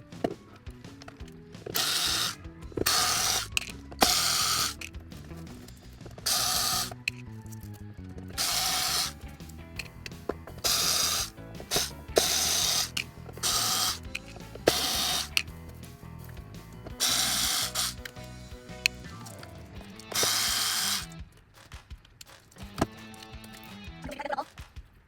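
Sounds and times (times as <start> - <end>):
background music with low notes: 0.0 - 25.0.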